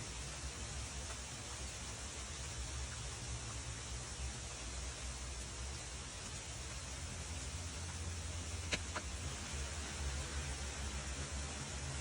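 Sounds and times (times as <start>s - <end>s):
heavy rain on leaves: 0.0s - 12.0s.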